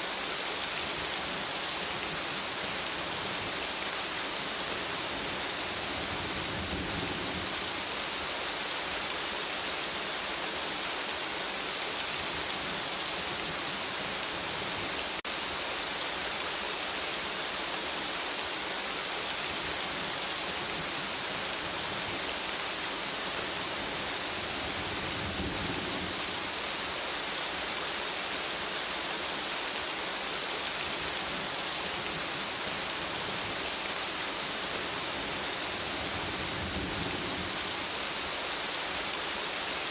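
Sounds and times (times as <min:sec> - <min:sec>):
rain on leaves and ground: 0:00.0 - 0:39.9.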